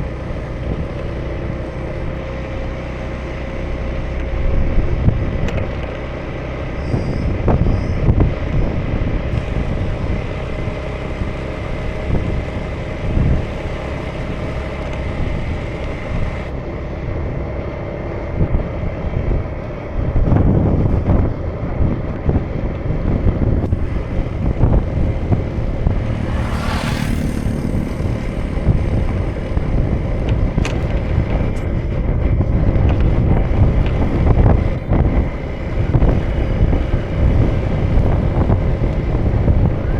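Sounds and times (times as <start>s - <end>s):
scooter engine running: 0.0s - 39.9s
wind buffeting microphone: 0.0s - 39.9s.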